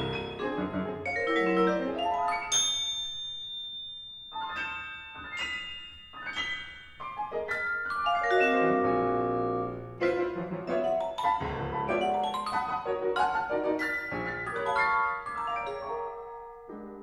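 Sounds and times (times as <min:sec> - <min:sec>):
grand piano: 0:00.0 - 0:03.7, 0:04.3 - 0:17.0
vibraphone: 0:00.0 - 0:16.8.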